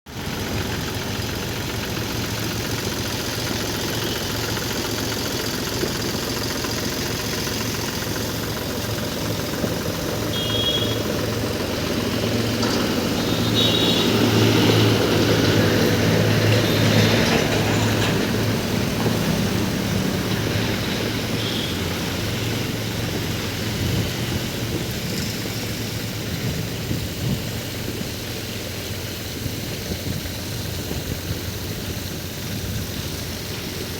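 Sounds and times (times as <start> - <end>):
water tanker engine running: 0.0 - 33.9.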